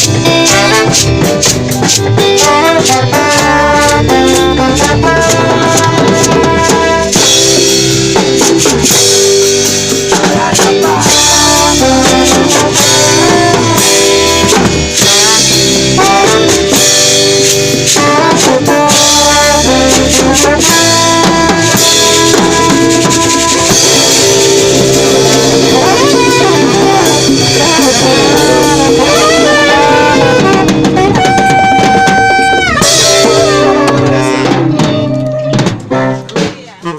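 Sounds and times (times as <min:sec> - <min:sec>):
bending lead melody: 0:00.0 - 0:36.9
reggae band playing: 0:00.0 - 0:36.9.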